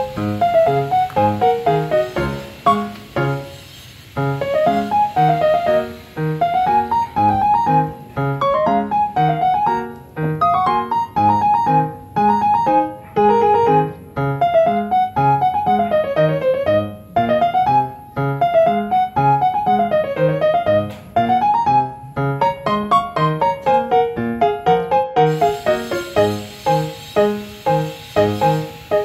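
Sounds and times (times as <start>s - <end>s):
keyboard melody: 0.0s - 29.0s.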